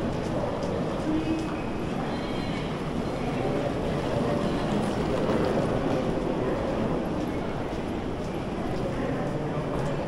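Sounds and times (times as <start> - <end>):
busy street din: 0.0 - 10.0.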